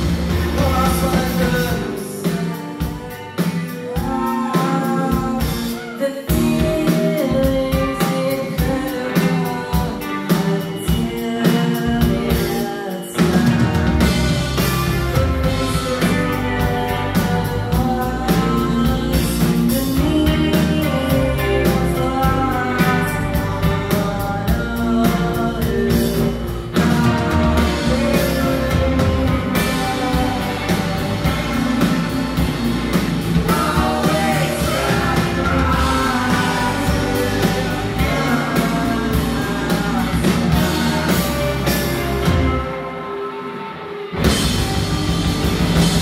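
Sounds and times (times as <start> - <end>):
live rock band playing: 0.0 - 46.0
person singing: 0.0 - 46.0.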